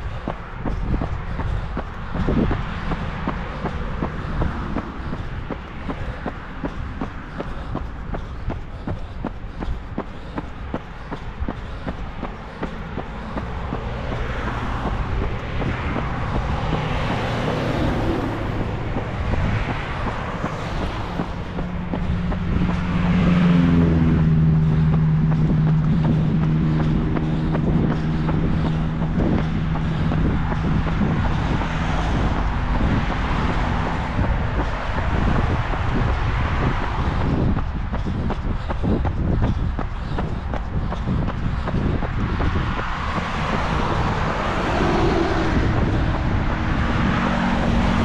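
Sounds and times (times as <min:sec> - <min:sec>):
road traffic noise: 0:00.0 - 0:48.0
vehicle engine humming: 0:00.0 - 0:48.0.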